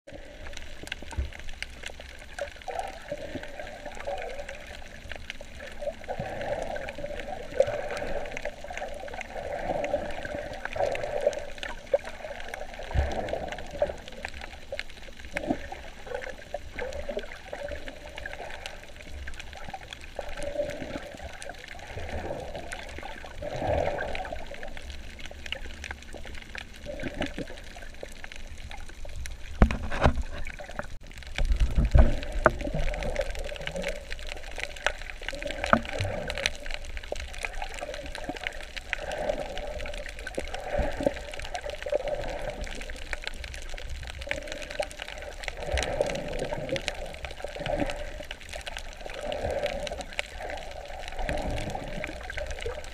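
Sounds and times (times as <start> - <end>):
water sloshing and gurgling: 0.1 - 52.9
bubbly bursts: 2.7 - 14.7, 15.3 - 29.6, 30.4 - 52.9.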